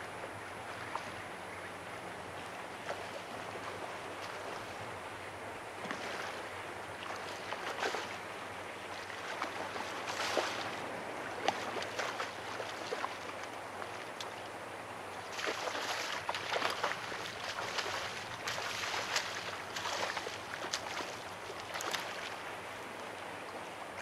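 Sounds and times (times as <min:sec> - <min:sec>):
sea water lapping and splashing: 0:00.0 - 0:24.0.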